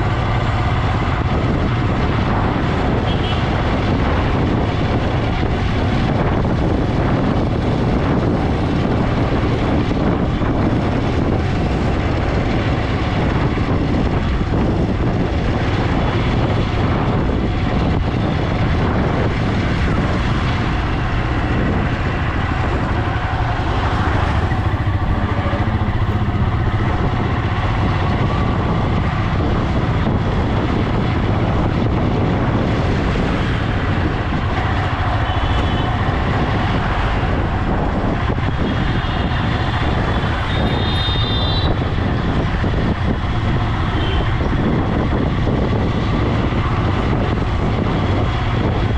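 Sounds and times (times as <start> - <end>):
motorcycle engine drone: 0.0 - 48.9
road and rushing air noise: 0.0 - 48.9.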